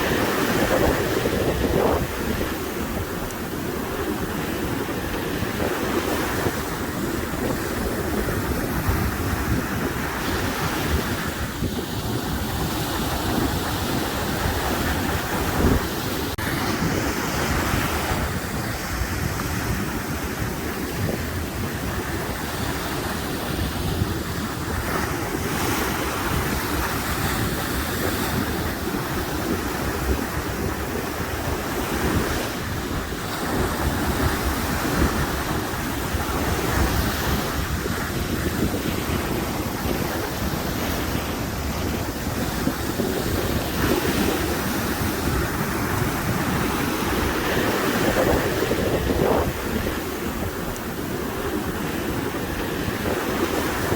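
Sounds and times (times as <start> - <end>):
waves breaking in surf: 0.0 - 53.9
wind buffeting microphone: 0.0 - 53.9.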